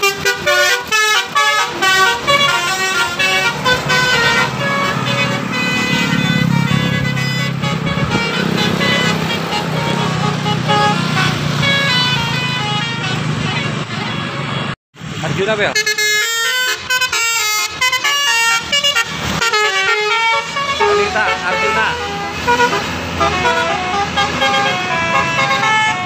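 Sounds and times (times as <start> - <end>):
bus musical horn: 0.0 - 14.8, 15.7 - 26.0
engine and traffic rumble: 0.0 - 26.0.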